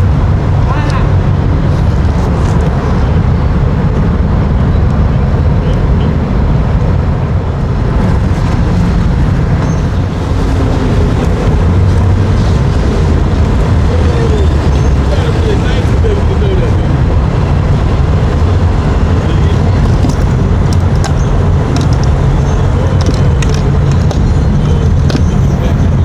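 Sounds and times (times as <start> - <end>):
motorboat engines rumbling: 0.0 - 26.0.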